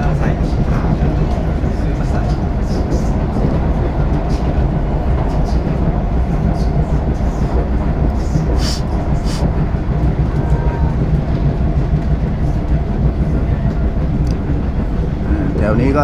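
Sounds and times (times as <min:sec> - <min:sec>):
train rumble inside carriage: 0:00.0 - 0:16.0.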